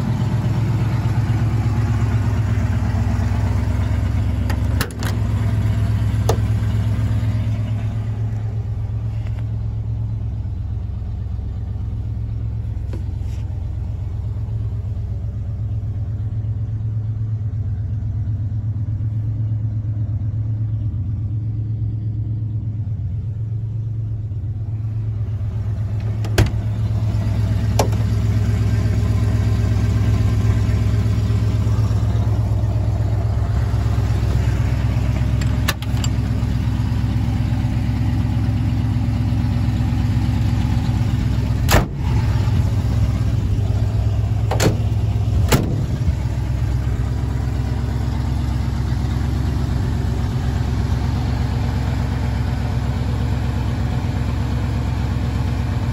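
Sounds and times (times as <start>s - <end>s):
van engine idling: 0.0s - 55.9s.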